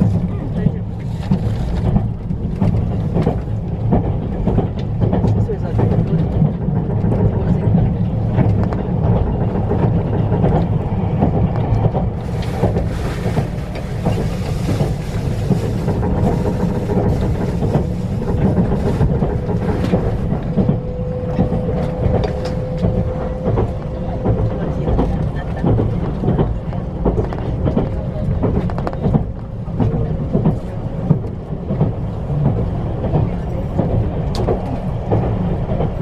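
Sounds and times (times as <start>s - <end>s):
rail clicks: 0.0s - 36.0s
train cabin rumble: 0.0s - 36.0s.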